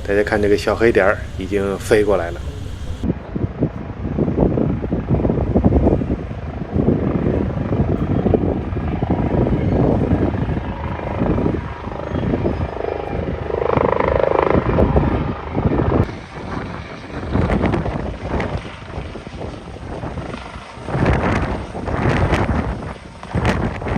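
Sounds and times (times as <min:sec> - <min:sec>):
helicopter rotor chopping: 0:00.0 - 0:23.9
high-pitched engine whine: 0:00.0 - 0:23.9.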